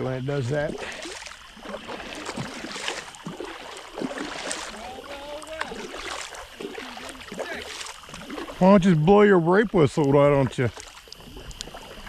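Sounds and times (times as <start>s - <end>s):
paddle strokes splashing water: 0.0s - 12.0s.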